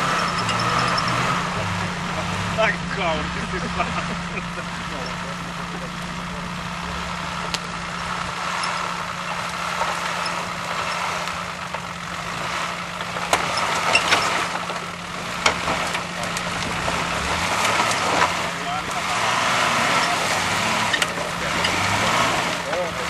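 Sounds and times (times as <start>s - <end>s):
engine running at low revs: 0.0s - 23.0s.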